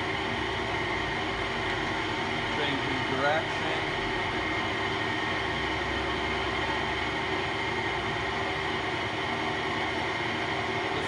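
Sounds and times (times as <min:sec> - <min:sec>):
milling machine motor hum: 0:00.0 - 0:11.0.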